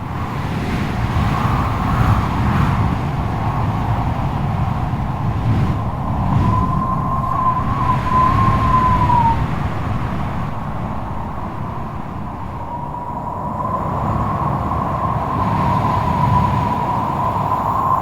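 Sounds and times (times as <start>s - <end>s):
strong wind roaring: 0.0s - 18.0s
wind whistling howl: 0.0s - 18.0s.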